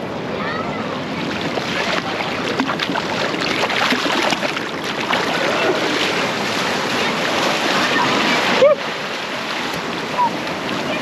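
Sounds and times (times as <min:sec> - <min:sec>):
ocean surf washing over rocks: 0:00.0 - 0:11.0.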